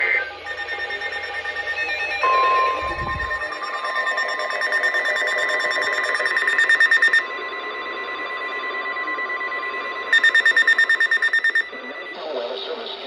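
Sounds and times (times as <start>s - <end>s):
fast beeping alarm: 0.0s - 13.0s
steady high alarm tone: 0.0s - 13.0s.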